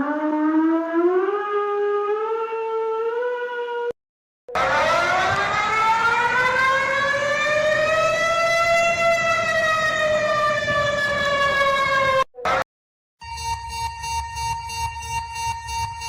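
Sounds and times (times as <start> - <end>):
warning siren: 0.0 - 16.0.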